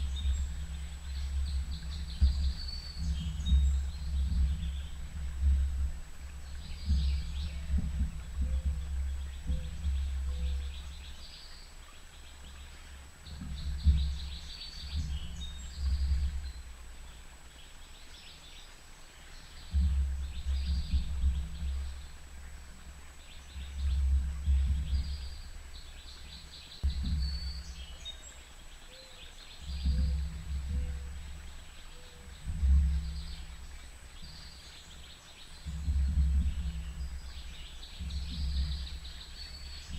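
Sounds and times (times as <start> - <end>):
low rumbles: 0.0 - 17.8, 19.4 - 28.4, 29.6 - 39.9
small birds chirping: 0.0 - 39.9.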